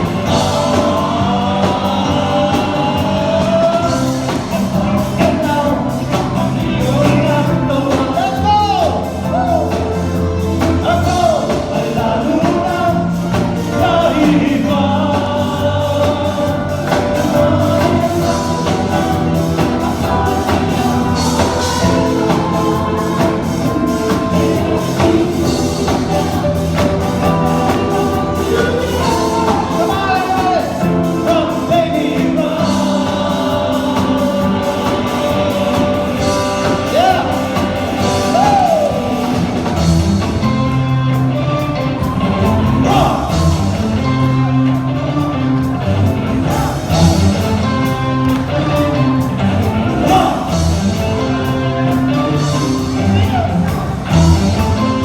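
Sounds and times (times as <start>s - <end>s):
bass: 0.0s - 55.0s
drums: 0.0s - 55.0s
keyboards: 0.0s - 55.0s
person singing lead: 0.0s - 55.0s.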